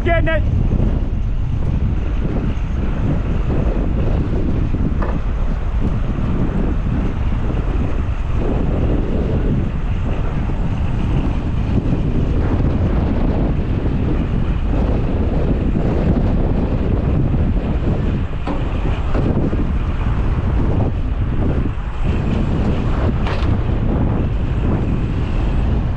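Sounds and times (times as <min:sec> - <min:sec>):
strong wind on microphone: 0:00.0 - 0:25.9.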